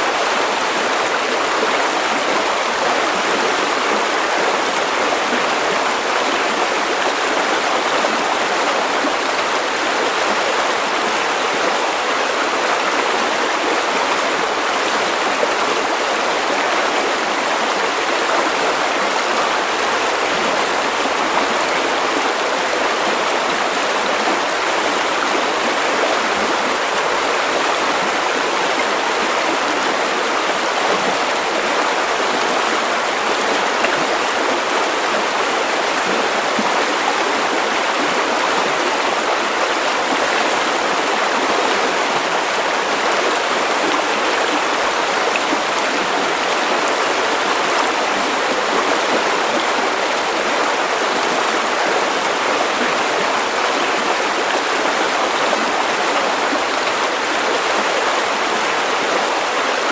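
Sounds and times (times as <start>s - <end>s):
river water over stones: 0.0s - 59.9s.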